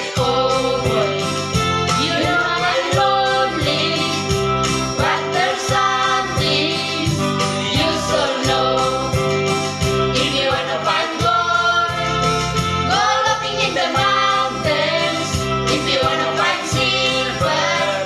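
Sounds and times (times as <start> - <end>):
voices singing with accompaniment: 0.0 - 18.0.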